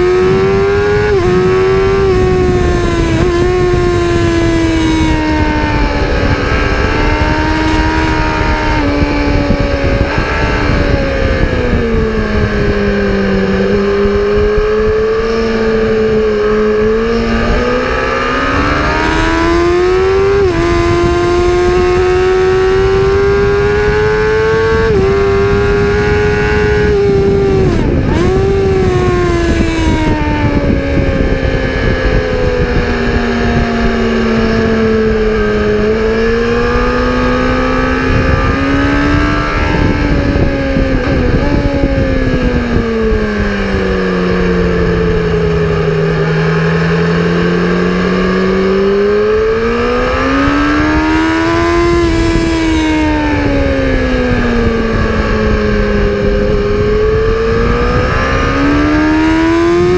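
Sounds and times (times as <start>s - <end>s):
racing car engine: 0.0s - 59.9s
wind and road noise: 0.0s - 59.9s.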